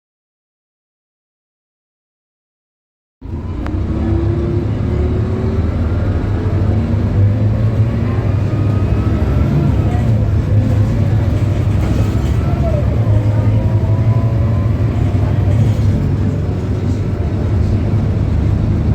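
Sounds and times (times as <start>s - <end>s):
bus diesel engine droning: 3.2s - 18.9s
engine whine: 3.2s - 18.9s.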